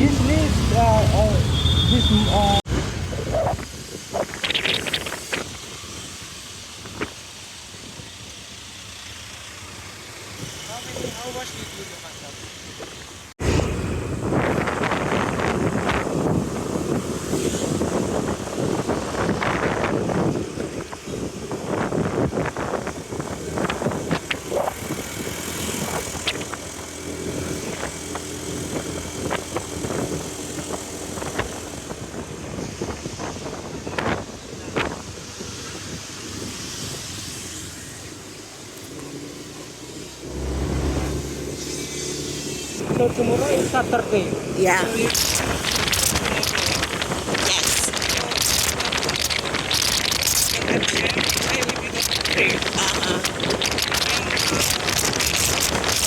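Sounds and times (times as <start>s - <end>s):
motorbike road and wind noise: 0.0s - 56.0s.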